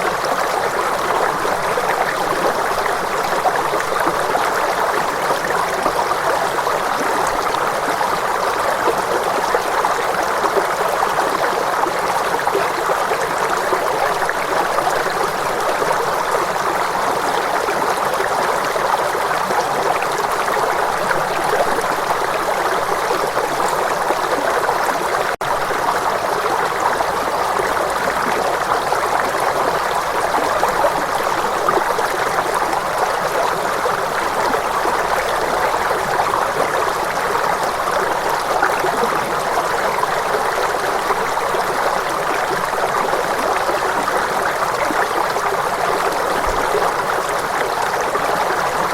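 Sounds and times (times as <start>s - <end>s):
flowing stream rushing: 0.0s - 48.9s.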